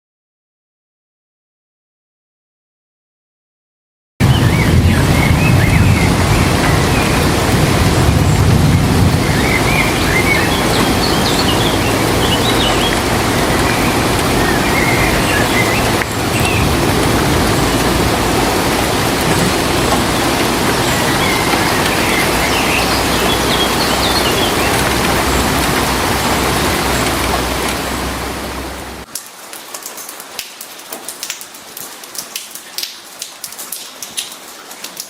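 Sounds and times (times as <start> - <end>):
heavy rain: 4.2 - 35.0
raindrops ticking on surface: 4.2 - 35.0.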